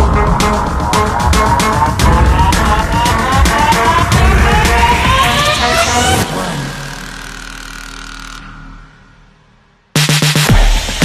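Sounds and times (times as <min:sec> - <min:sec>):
background music rising sweep: 0:00.0 - 0:11.0.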